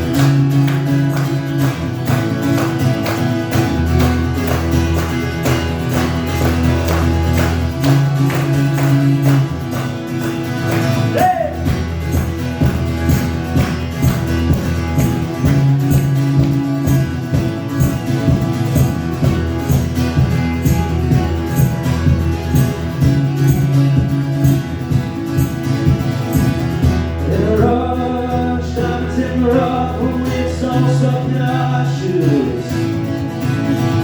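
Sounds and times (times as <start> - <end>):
guitar strumming: 0.0 - 34.0.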